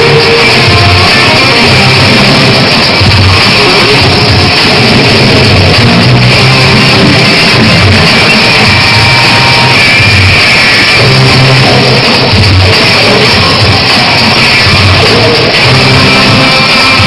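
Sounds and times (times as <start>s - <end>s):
rock music with guitar: 0.0s - 17.0s.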